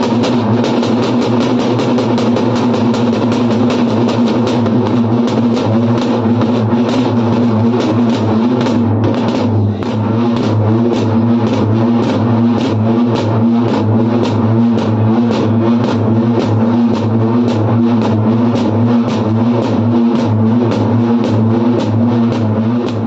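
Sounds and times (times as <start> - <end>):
drums beaten with sticks: 0.0 - 23.0
low hum: 4.0 - 23.0.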